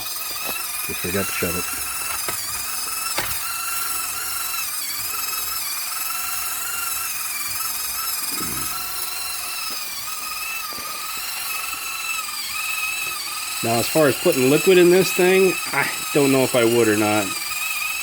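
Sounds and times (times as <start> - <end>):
electric gear motor whine: 0.0 - 18.0.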